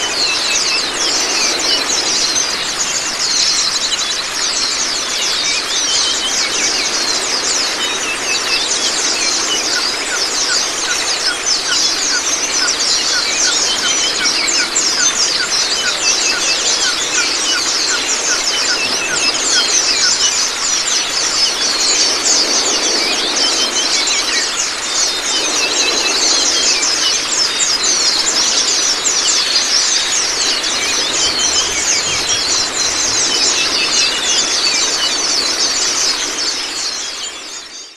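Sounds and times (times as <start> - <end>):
running water: 0.0 - 37.9.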